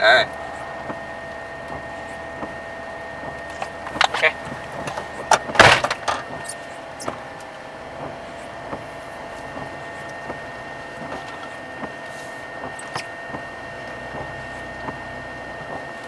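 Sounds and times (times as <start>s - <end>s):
vehicle cabin hum: 0.0s - 16.0s.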